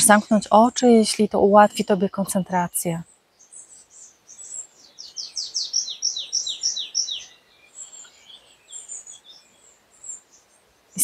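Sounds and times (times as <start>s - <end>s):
faint bird chirps: 0.0s - 11.0s
songbird singing: 0.0s - 11.0s.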